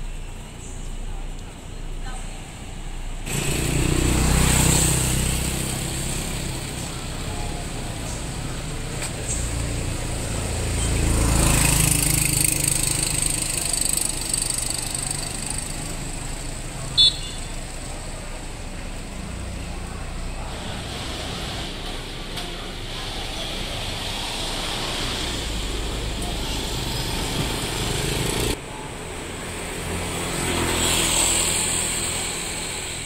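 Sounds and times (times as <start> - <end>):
busy street ambience: 0.0 - 33.0
vehicle engine passing: 3.2 - 33.0.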